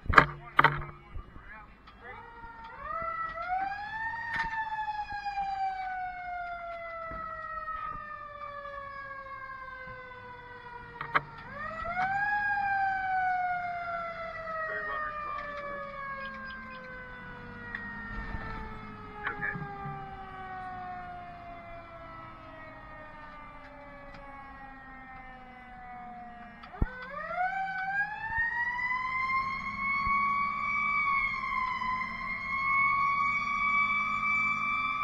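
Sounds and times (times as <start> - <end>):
fire truck siren: 0.0 - 35.0.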